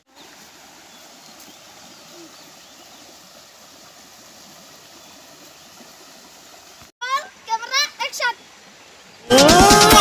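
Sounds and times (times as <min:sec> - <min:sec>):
outdoor background hiss: 0:00.1 - 0:09.3.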